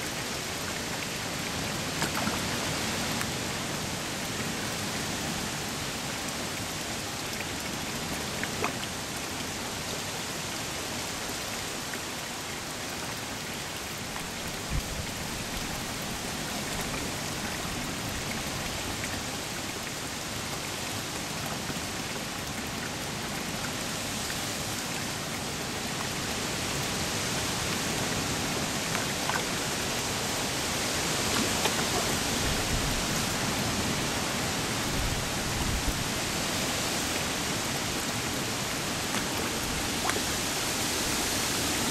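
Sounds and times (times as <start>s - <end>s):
splashing pond water: 0.0s - 6.4s, 11.1s - 41.9s.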